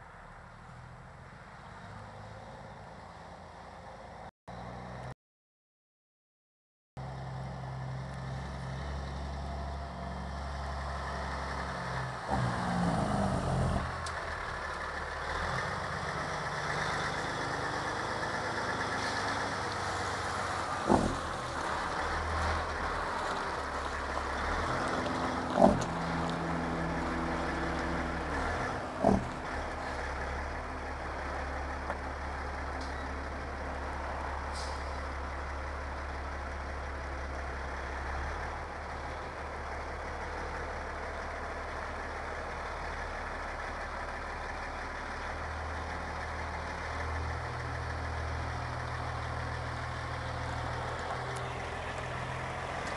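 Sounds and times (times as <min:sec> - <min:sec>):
truck diesel engine running: 0:07.3 - 0:52.9.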